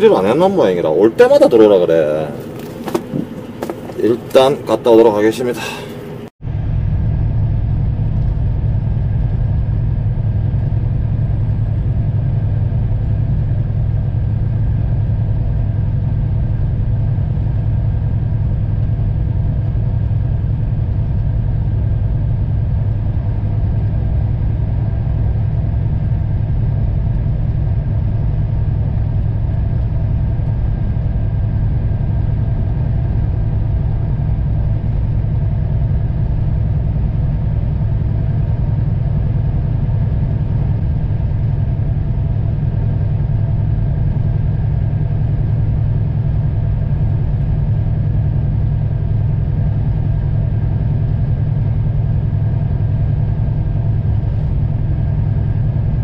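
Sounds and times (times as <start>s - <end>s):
truck engine and road noise drone: 0.0s - 56.0s.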